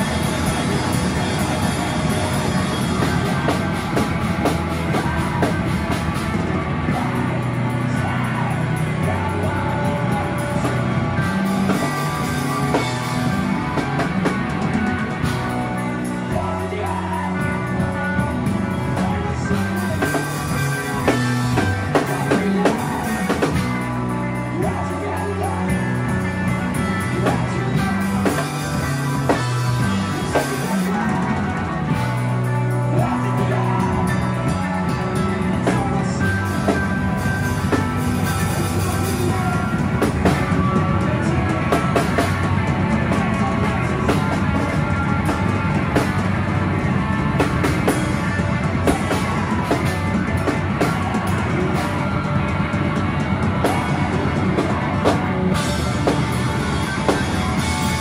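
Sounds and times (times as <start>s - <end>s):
live rock band playing: 0.0s - 58.0s
vocals: 0.0s - 58.0s.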